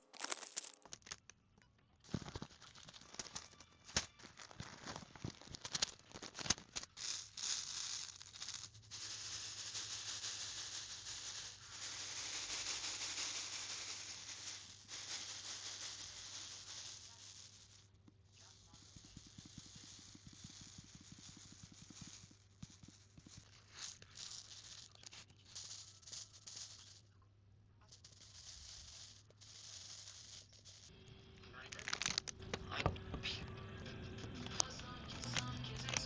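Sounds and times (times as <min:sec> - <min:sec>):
plastic beads rattling in a tray: 0:00.0 - 0:01.4, 0:02.0 - 0:27.2, 0:27.8 - 0:30.9, 0:31.6 - 0:32.8, 0:34.4 - 0:36.0.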